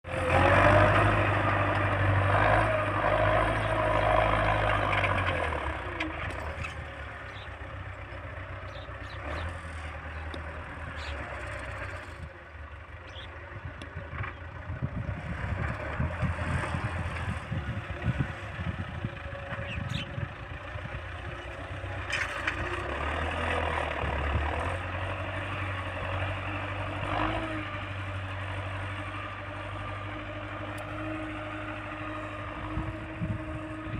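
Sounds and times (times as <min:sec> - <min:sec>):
tractor diesel engine working: 0:00.0 - 0:33.9.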